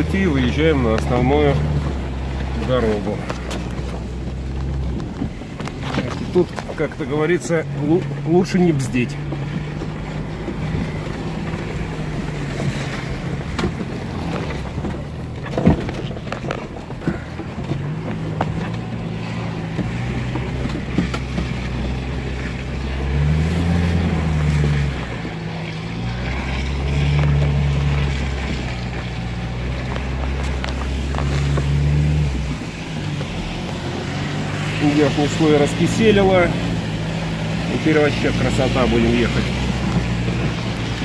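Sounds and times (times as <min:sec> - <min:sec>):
tyres driving through slush: 0:00.0 - 0:41.0
vehicle engine revving: 0:00.0 - 0:41.0.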